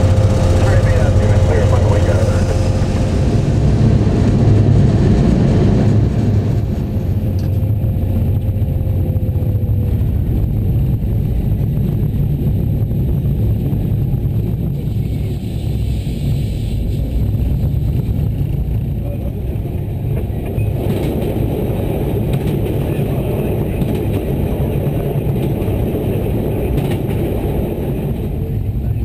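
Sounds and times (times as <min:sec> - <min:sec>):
faint whine: 0:00.0 - 0:29.0
train low rumble: 0:00.0 - 0:29.0.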